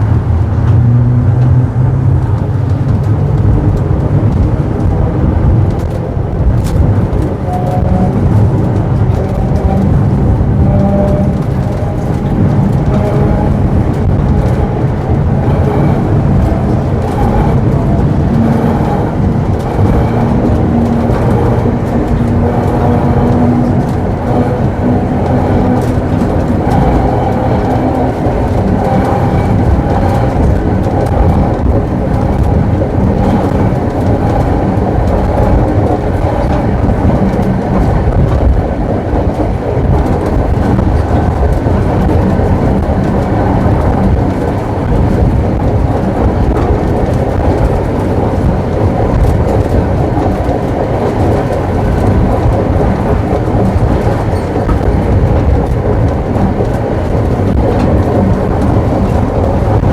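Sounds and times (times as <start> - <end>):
tram rumbling on rails: 0.0 - 59.9.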